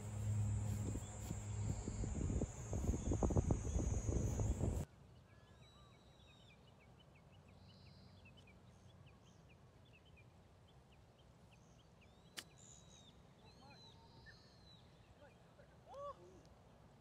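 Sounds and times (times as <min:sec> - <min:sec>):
faint birds chirping: 0:00.0 - 0:15.8.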